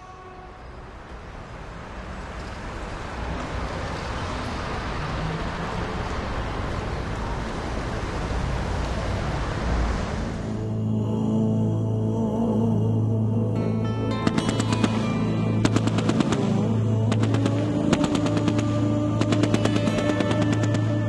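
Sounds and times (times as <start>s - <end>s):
train rumbling and roaring: 0.0s - 11.2s, 14.2s - 21.0s.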